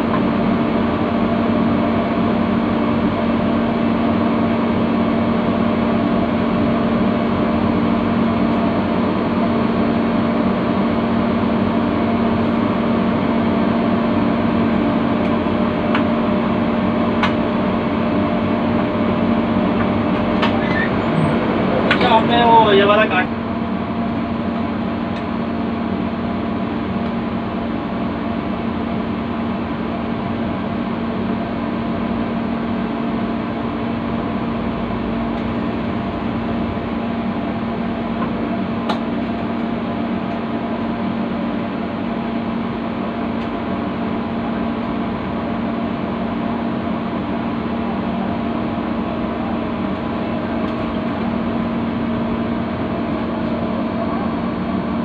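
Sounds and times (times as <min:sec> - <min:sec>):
diesel locomotive engine idling: 0:00.0 - 0:55.0.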